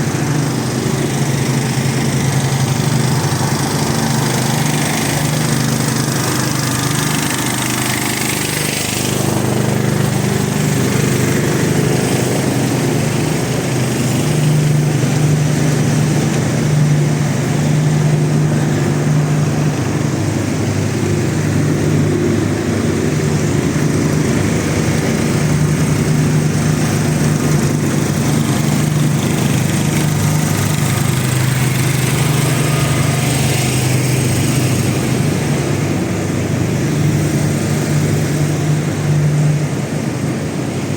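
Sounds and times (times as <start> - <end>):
portable generators humming: 0.0 - 40.9.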